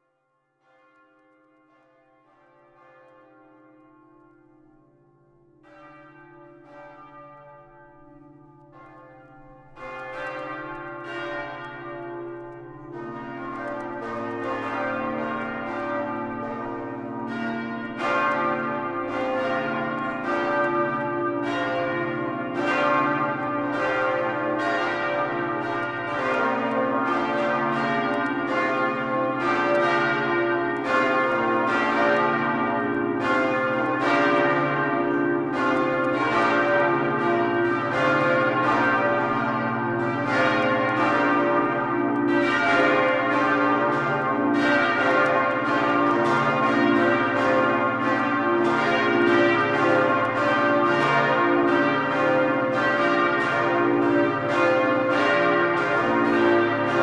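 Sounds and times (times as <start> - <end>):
church bells ringing: 0.6 - 57.0.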